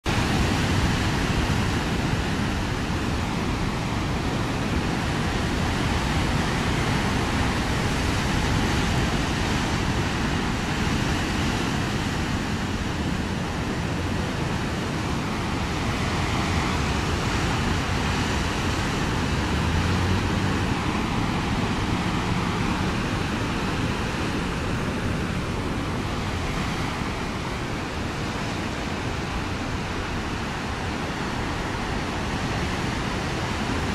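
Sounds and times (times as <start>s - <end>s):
ocean surf on rocky shore: 0.1s - 33.9s.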